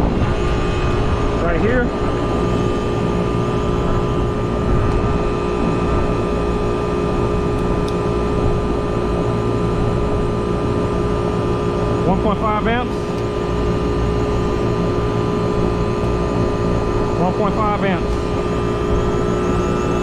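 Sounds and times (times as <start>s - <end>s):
air conditioner droning: 0.0s - 20.0s.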